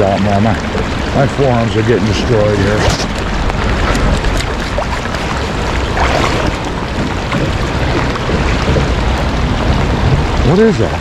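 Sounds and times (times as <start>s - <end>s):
river water rushing: 0.0s - 11.0s
wind buffeting microphone: 0.0s - 11.0s.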